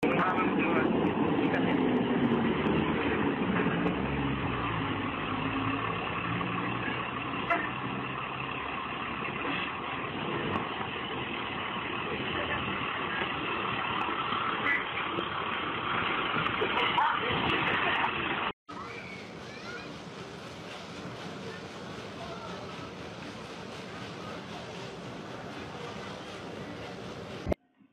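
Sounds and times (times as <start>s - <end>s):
bus engine running: 0.0s - 27.6s
street traffic: 0.0s - 27.6s.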